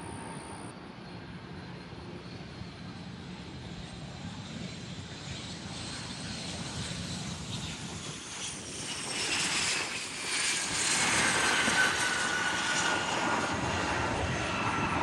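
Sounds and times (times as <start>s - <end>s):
aircraft engine whine: 0.0s - 15.0s.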